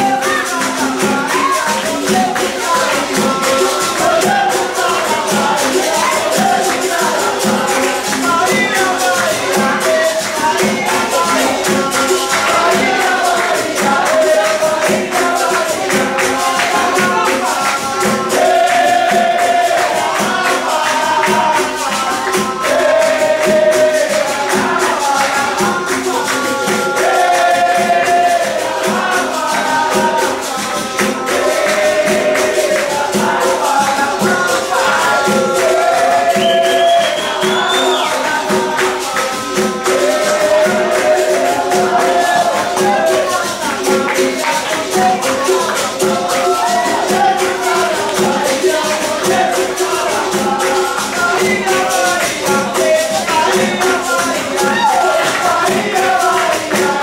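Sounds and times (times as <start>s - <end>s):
tambourine and percussion beat: 0.0s - 57.0s
voices singing: 0.0s - 57.0s.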